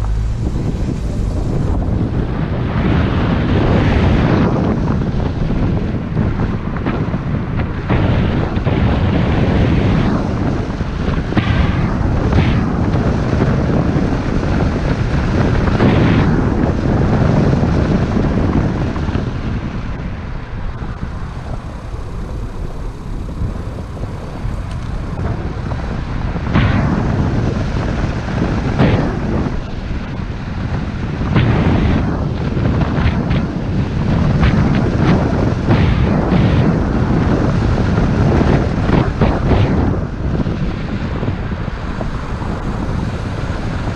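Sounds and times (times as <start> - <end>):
car rumbling on rough road: 0.0 - 43.9
wind buffeting microphone: 0.0 - 43.9.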